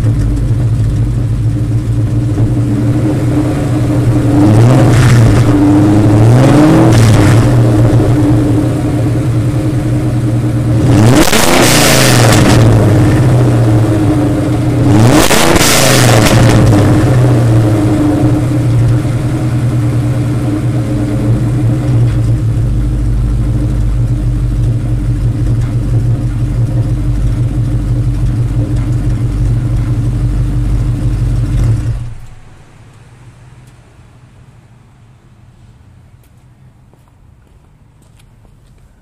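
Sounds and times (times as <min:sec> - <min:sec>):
car engine revving and idling: 0:00.0 - 0:36.2.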